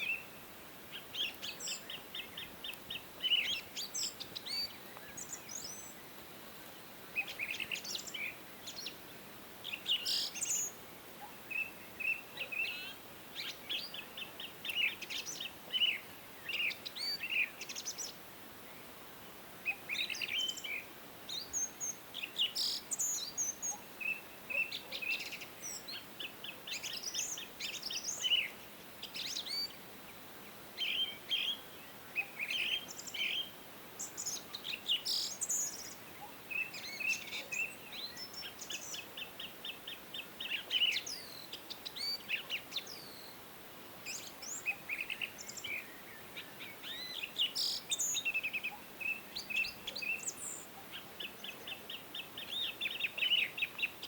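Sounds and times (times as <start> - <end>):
faint outdoor hiss: 0.0 - 54.0
songbirds singing and chirping: 0.0 - 54.0.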